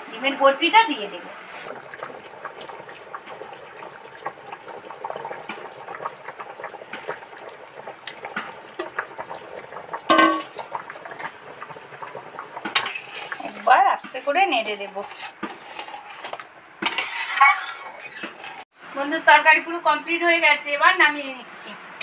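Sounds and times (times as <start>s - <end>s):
gravy bubbling in a pan: 0.0s - 18.7s.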